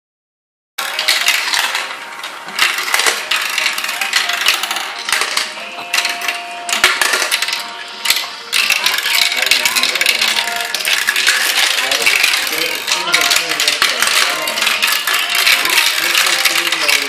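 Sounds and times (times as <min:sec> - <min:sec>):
marbles rattling down plastic tracks: 0:00.8 - 0:17.0.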